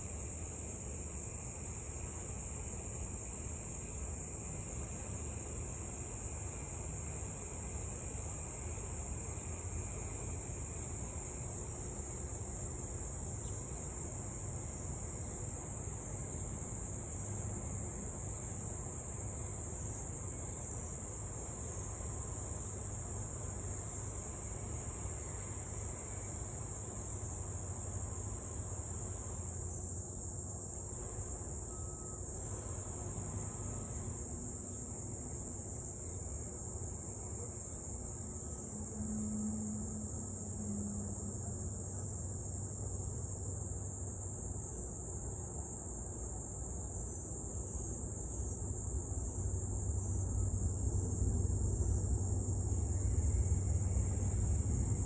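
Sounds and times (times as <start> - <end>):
insects chirping: 0.0 - 55.0
low steady hum: 0.0 - 55.0.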